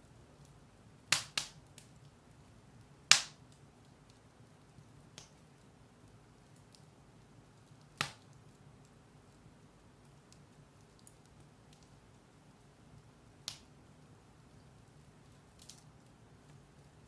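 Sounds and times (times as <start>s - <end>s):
firewood burning in fireplace: 0.0s - 17.0s
sharp crackling pops: 0.4s - 2.2s, 2.8s - 4.4s, 5.1s - 6.9s, 7.6s - 9.0s, 9.7s - 16.9s.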